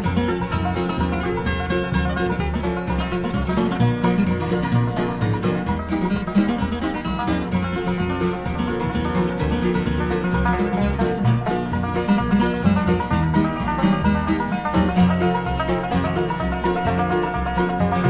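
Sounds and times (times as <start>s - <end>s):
bluegrass band playing: 0.0s - 18.0s.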